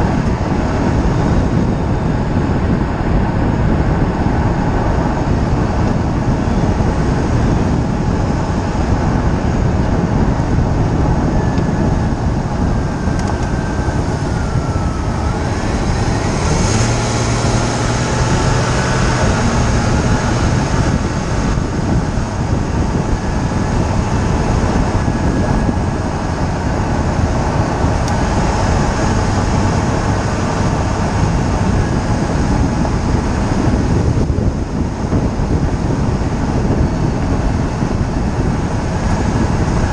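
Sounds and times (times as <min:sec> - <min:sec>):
low hum: 0:00.0 - 0:39.9
wind rush: 0:00.0 - 0:39.9.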